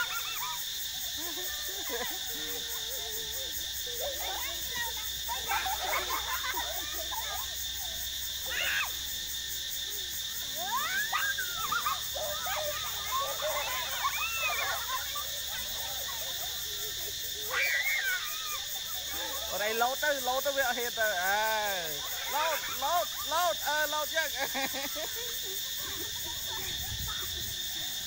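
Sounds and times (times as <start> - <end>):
children shouting and squealing: 0.0 - 28.0
high insect drone: 0.0 - 28.0.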